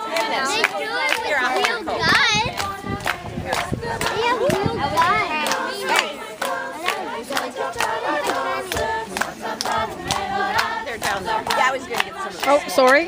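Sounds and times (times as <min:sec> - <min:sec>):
group singing folk song: 0:00.0 - 0:13.0
hand claps: 0:00.1 - 0:13.0.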